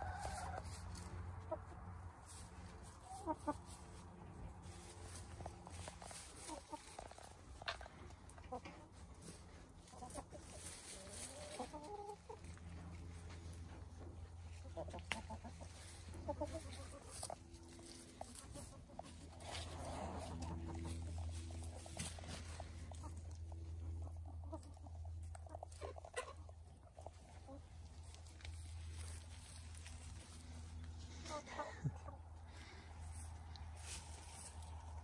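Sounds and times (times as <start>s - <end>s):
hens clucking softly: 0.0s - 35.0s
scratching and pecking in leaves: 0.0s - 35.0s.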